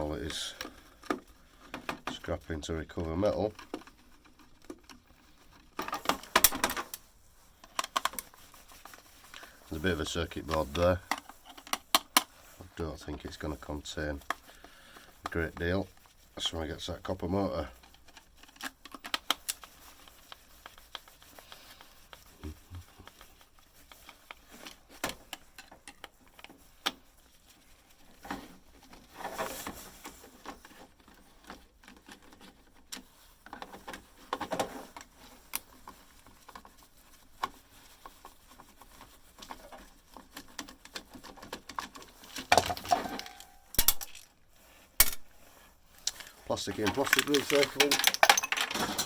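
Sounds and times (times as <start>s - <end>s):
plastic and metal parts rattling: 0.0s - 49.0s.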